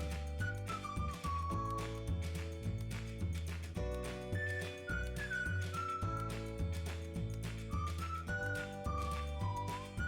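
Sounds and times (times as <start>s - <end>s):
music with beat and bass: 0.0s - 10.0s.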